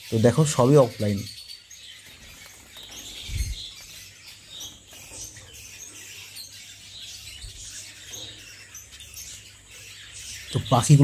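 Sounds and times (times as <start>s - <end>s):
lovebirds chirping: 0.0s - 11.0s.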